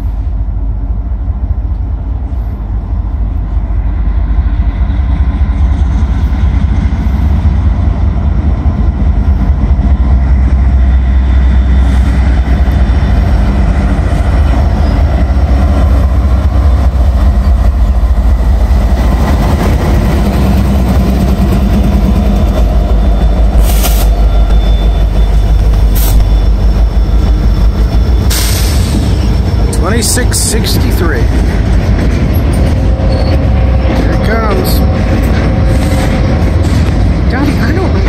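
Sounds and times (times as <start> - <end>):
locomotive engine rumble: 0.0 - 38.0.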